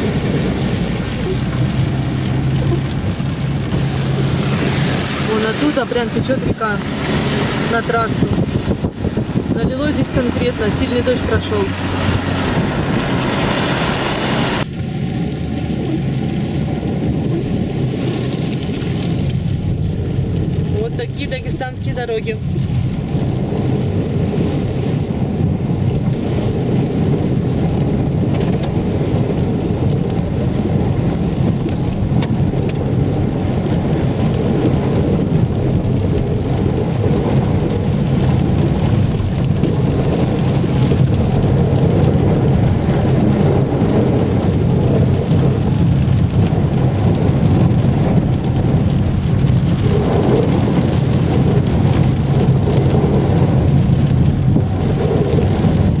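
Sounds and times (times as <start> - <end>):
car road noise: 0.0 - 56.0
heavy rain on car roof: 0.0 - 56.0.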